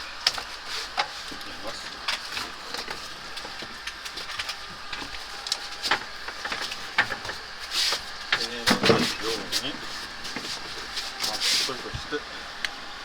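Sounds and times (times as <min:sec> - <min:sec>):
hands handling piping and hose: 0:00.0 - 0:12.1.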